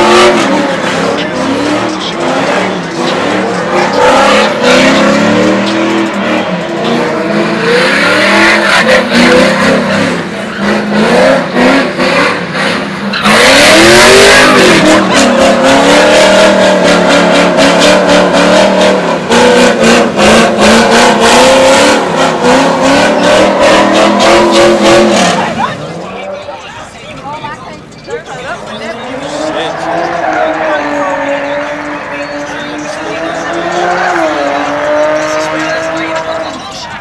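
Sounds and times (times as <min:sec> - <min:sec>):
car engine revving: 0:00.0 - 0:37.0
tyres squealing in a burnout: 0:00.0 - 0:37.0.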